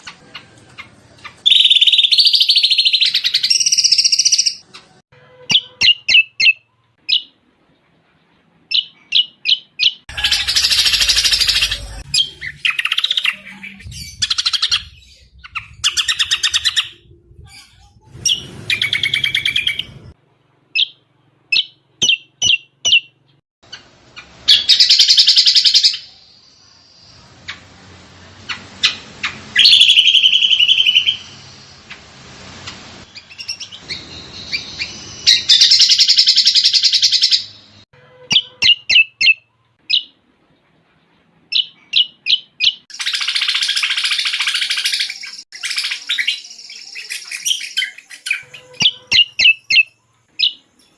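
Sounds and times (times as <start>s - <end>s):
songbird singing chirps and trills: 0.0s - 20.1s, 28.4s - 50.9s.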